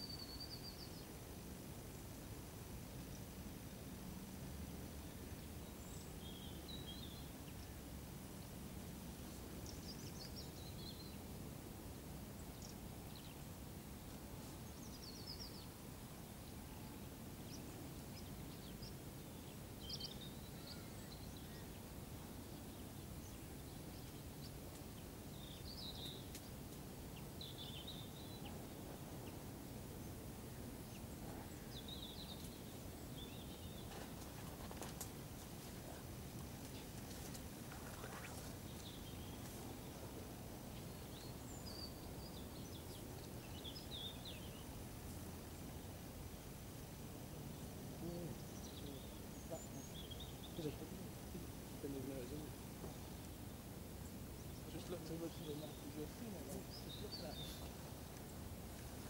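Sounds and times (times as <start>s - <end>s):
small birds chirping: 0.0s - 1.2s, 4.5s - 8.5s, 9.1s - 11.4s, 12.2s - 59.0s
low outdoor background hum: 0.0s - 59.0s.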